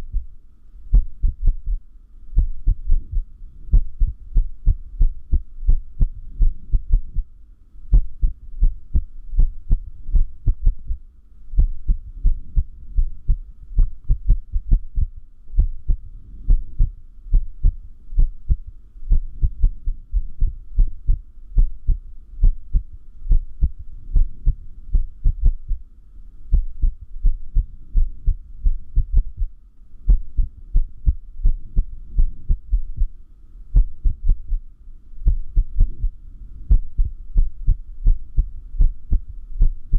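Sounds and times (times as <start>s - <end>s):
irregular heartbeat thumps: 0.0s - 7.3s, 7.9s - 11.0s, 11.6s - 25.8s, 26.5s - 33.2s, 33.8s - 34.6s, 35.2s - 39.9s.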